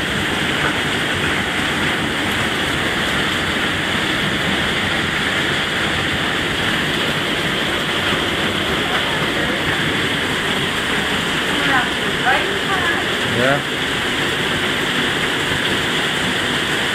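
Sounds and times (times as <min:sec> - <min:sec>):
torrential rain on a roof: 0:00.0 - 0:16.9.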